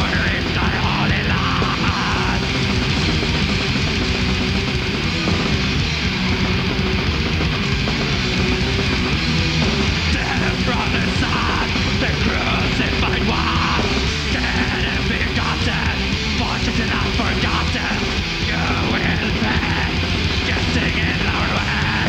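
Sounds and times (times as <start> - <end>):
metal band playing live: 0.0 - 22.0.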